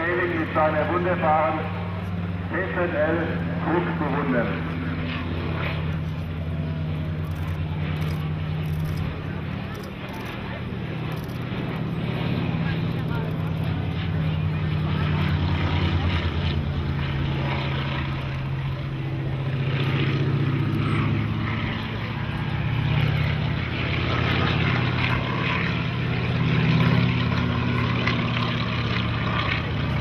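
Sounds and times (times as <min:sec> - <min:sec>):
aircraft engine and propeller drone: 0:00.0 - 0:30.0.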